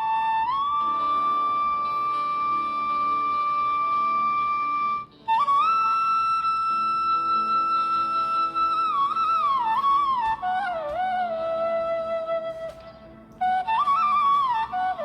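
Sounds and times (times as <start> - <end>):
flute music: 0.0 - 15.0
soft low accompaniment: 0.0 - 15.0.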